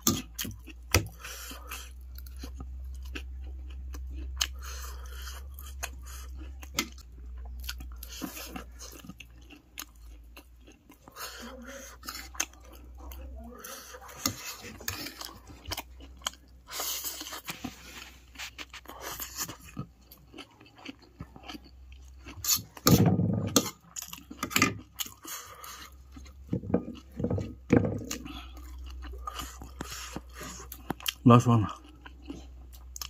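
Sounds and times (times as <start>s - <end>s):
chewing and crunchy bites: 0.0s - 33.0s.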